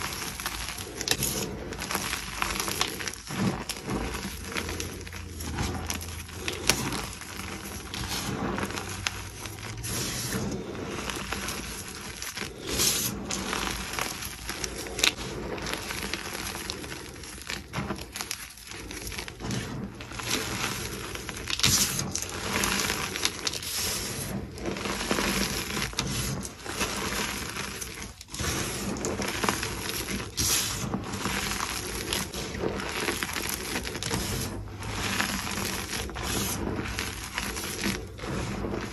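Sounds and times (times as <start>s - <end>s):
hands crushing chalk lumps: 0.0s - 38.9s.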